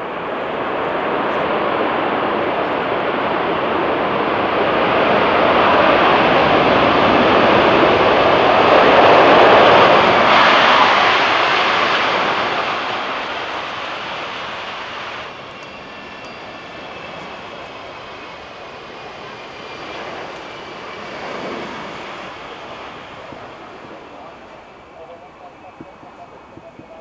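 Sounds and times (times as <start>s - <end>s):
jet aircraft engine roar: 0.0s - 27.0s.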